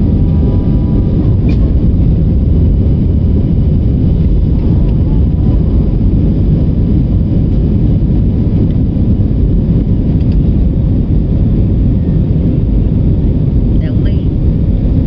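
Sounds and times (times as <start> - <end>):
jet engines rumbling: 0.0 - 15.0
rushing air: 0.0 - 15.0.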